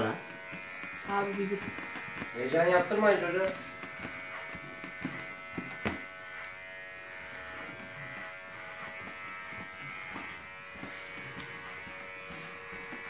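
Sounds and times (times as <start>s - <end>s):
steady electric buzz: 0.0s - 13.0s.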